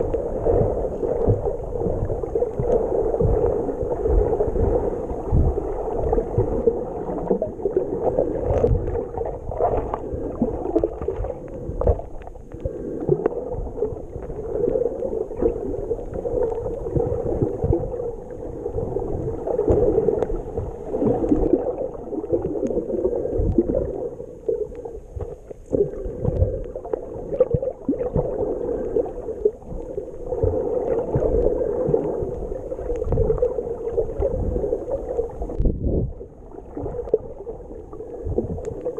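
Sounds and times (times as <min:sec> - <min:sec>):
water splashing: 0:00.0 - 0:38.9.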